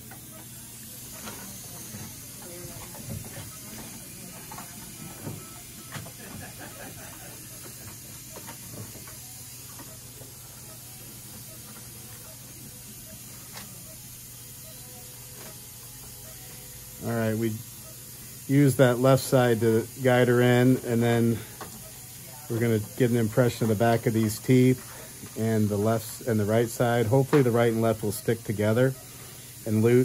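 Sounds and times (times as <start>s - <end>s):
background hiss and hum: 0.0s - 30.0s.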